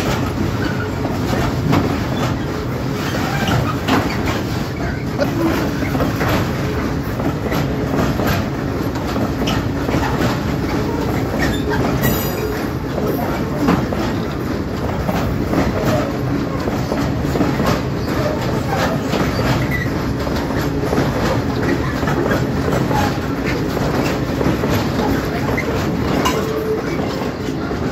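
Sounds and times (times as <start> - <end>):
wagon wheels clattering on rails: 0.0 - 27.9
wheel squeals: 0.1 - 27.9.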